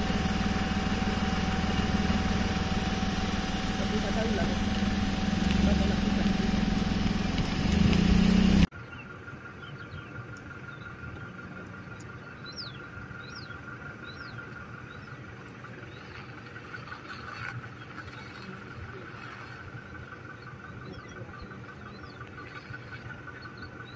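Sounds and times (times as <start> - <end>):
steady high drone: 0.0 - 23.9
vehicle engine running: 0.0 - 23.9.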